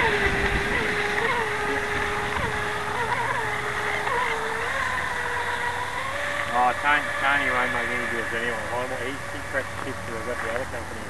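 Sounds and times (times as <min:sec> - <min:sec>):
electric motor high whine: 0:00.0 - 0:11.0.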